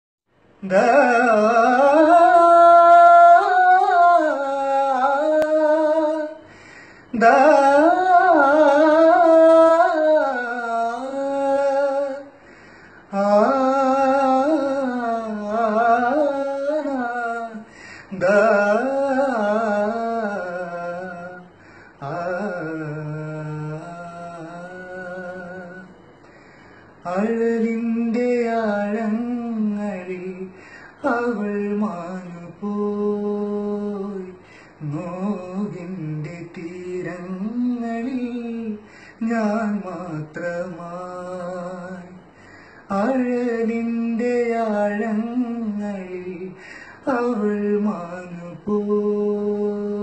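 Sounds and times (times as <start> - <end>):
man singing unaccompanied: 0.6 - 12.4, 13.0 - 26.1, 26.9 - 50.0.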